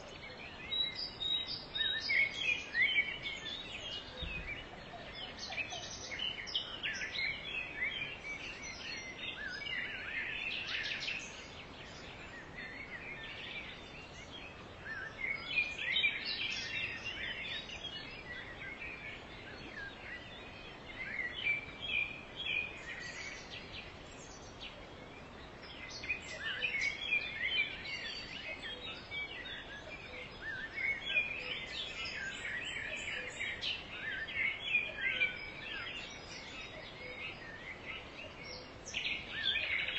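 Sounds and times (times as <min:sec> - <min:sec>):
background hiss: 0:00.0 - 0:39.9
songbirds chirping: 0:00.0 - 0:39.9.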